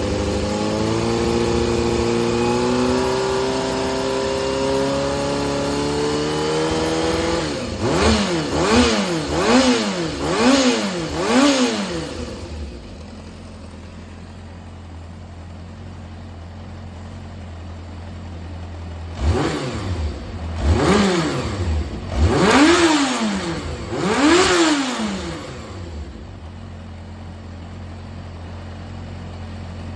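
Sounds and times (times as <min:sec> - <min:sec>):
motorcycle engine revving and idling: 0:00.0 - 0:29.9.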